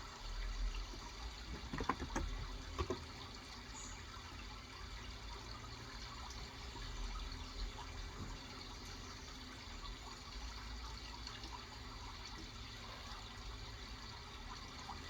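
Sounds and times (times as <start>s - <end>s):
running water trickling: 0.0s - 15.0s.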